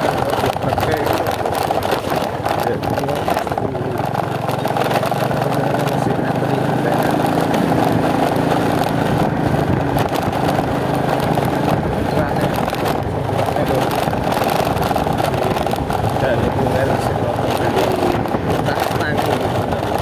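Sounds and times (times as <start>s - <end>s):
scooter engine running: 0.0s - 20.0s
wind noise on microphone: 0.0s - 20.0s.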